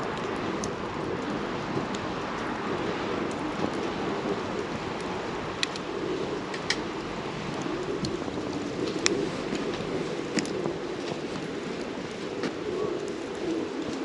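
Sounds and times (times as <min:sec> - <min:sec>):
fire crackles and pops: 0:00.0 - 0:14.0
rush of campfire flame: 0:00.0 - 0:14.0.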